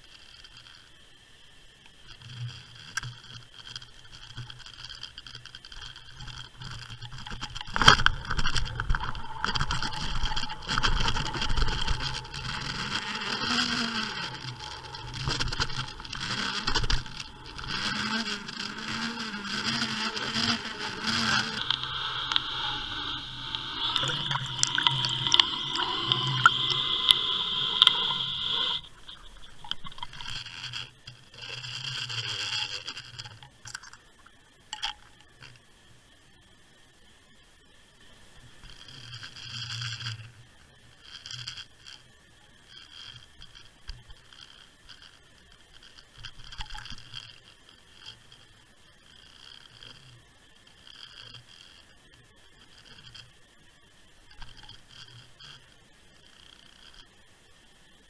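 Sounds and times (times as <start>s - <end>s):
scraping over seabed: 0.0s - 35.6s, 38.6s - 58.0s
underwater water noise: 0.0s - 58.0s.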